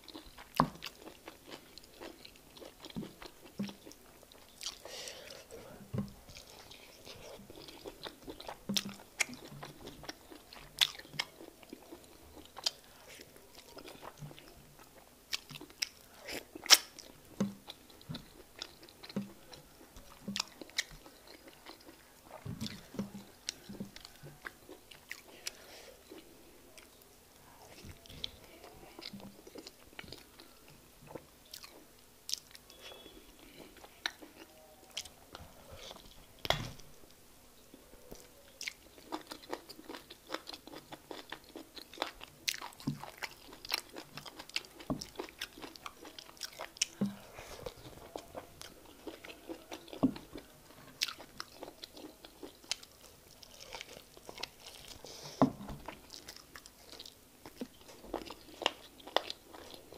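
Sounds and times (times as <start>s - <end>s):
wet chewing: 0.0s - 27.0s, 27.7s - 35.2s, 38.1s - 59.9s.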